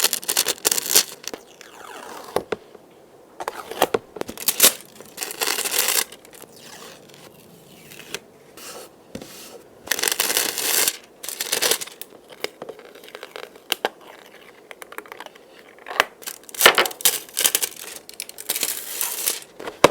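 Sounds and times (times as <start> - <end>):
thin film crumpling: 0.0 - 2.6, 3.4 - 8.3, 9.9 - 19.9.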